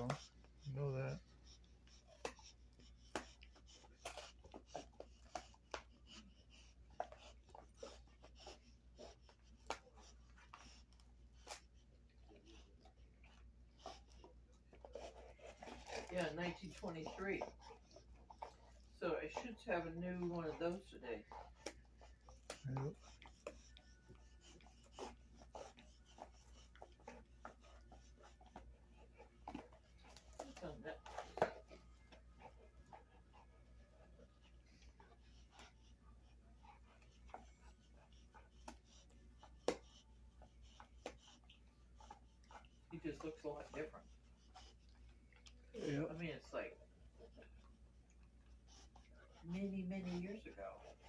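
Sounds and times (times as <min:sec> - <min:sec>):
dog chewing and crunching: 0:00.0 - 0:35.9, 0:36.6 - 0:51.0.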